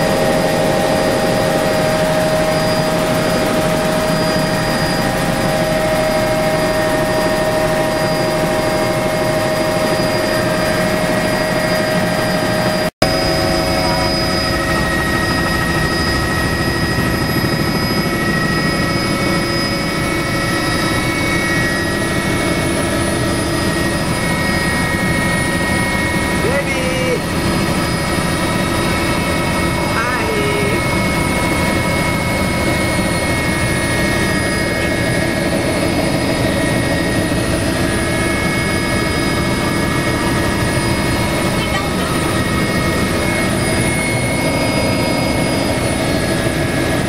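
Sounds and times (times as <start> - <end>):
helicopter engine and rotors: 0.0 - 47.0
steady whine: 0.0 - 47.0.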